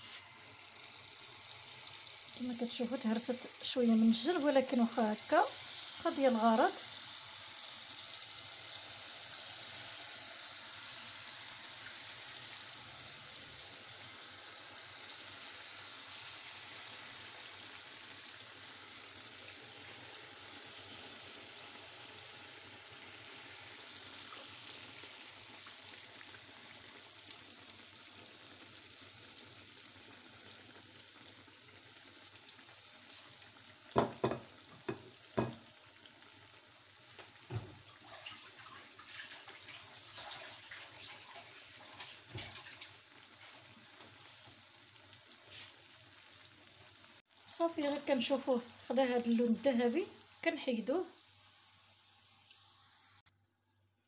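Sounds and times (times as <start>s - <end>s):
dough frying in hot oil: 0.0s - 54.0s.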